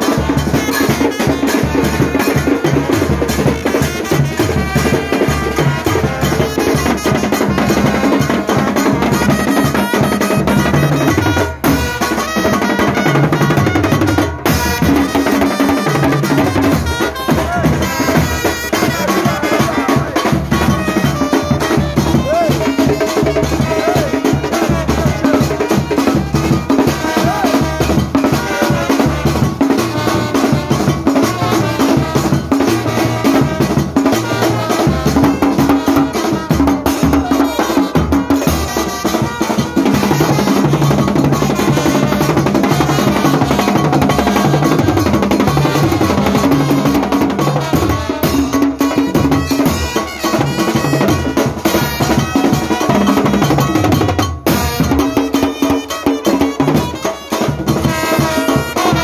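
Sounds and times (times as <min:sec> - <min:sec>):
brass band playing: 0:00.0 - 0:59.0
snare and bass drums beat: 0:00.0 - 0:59.0.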